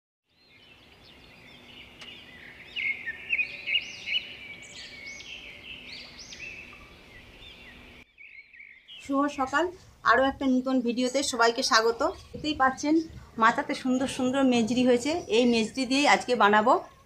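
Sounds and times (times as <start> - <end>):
birds chirping: 0.3 - 17.0.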